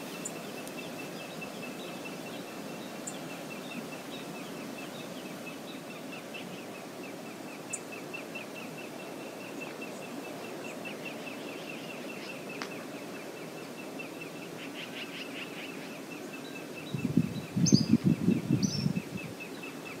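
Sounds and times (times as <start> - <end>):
flowing river water: 0.0 - 17.0
higher bird calls: 0.0 - 20.0.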